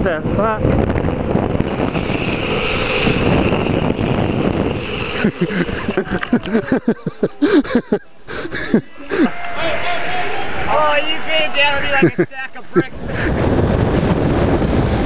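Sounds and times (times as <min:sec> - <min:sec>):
longboard wheels rolling on asphalt: 0:00.0 - 0:15.0
wind rushing over microphone: 0:00.0 - 0:15.0
body sliding and scraping on road: 0:01.0 - 0:15.0.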